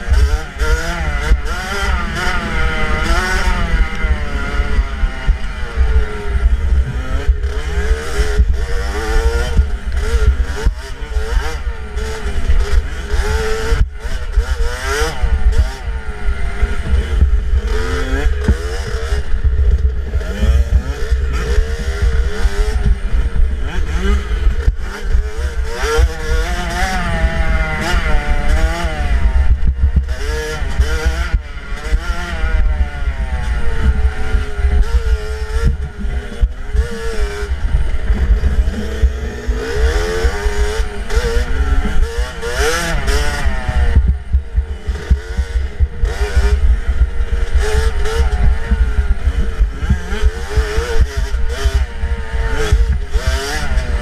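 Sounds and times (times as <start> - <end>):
dirt bike engine revving: 0.0 - 54.0
wind rumble on microphone: 0.0 - 54.0.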